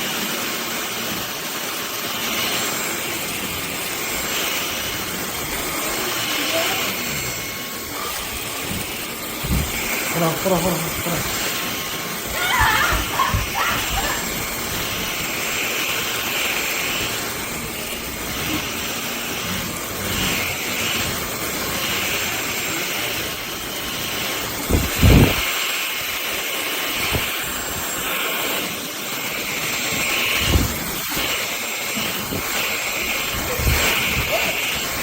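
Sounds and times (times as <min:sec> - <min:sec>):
stick vacuum whining: 0:00.0 - 0:35.0.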